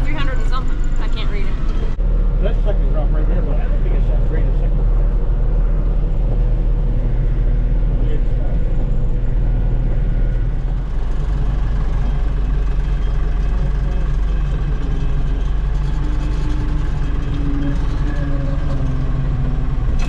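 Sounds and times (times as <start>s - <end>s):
tractor diesel engine humming: 0.0s - 20.0s.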